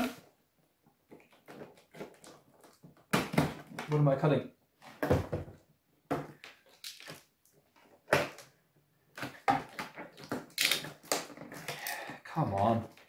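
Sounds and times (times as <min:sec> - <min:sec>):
plastic parts clicking and knocking: 0:01.0 - 0:04.1, 0:05.0 - 0:13.0.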